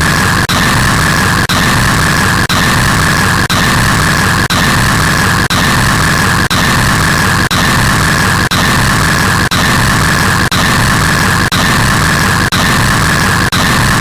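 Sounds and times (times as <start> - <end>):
harsh static noise: 0.0 - 14.0.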